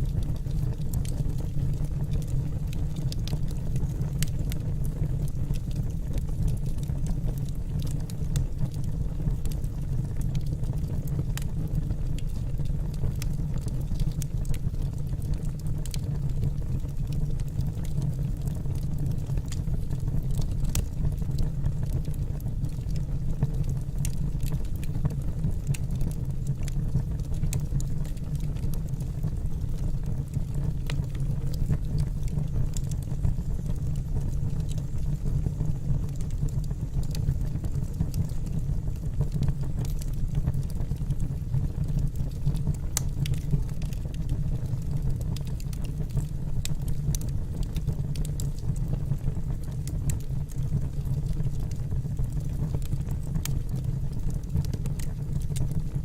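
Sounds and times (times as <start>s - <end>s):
fire rumbling: 0.0s - 56.0s
logs crackling and popping: 0.0s - 56.0s.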